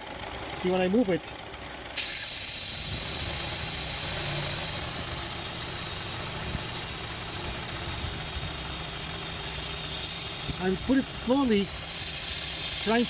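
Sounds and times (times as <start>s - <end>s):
car engine rough idling: 0.0s - 13.0s
high hiss of intake air: 2.0s - 13.0s.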